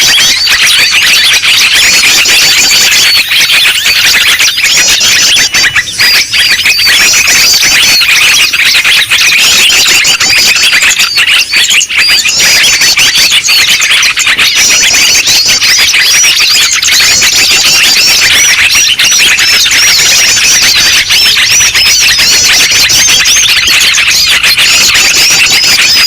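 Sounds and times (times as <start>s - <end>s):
many small birds chirping: 0.0s - 26.0s.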